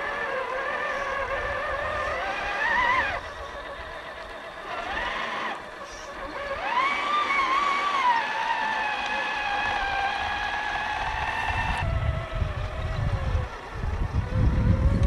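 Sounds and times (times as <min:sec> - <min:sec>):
electric motor and gear whine: 0:00.0 - 0:15.0
toy truck driving through water: 0:00.0 - 0:15.0.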